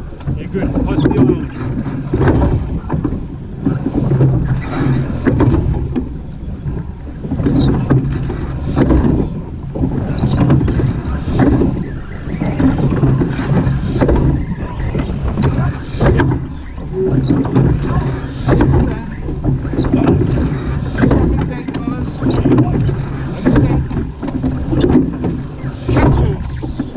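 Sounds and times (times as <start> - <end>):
oars splashing: 0.0 - 26.9
wind buffeting microphone: 0.0 - 26.9
oar knocking in rowlock: 0.2 - 26.9.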